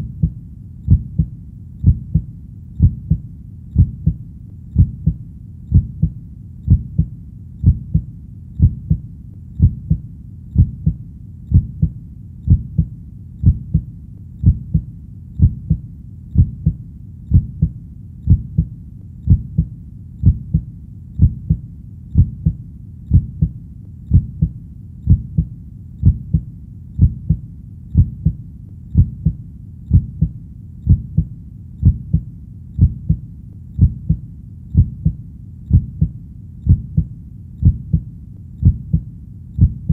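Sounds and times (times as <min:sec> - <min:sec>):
faint low rumble: 0:00.0 - 0:39.9
heartbeat thumping: 0:00.0 - 0:39.9.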